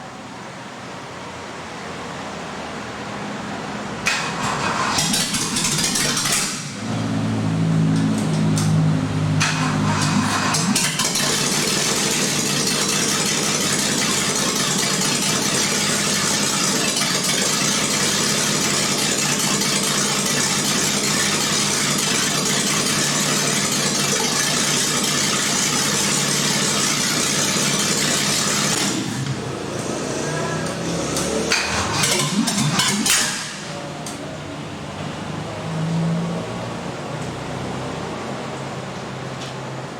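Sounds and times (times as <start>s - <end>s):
engine running: 4.0s - 36.1s.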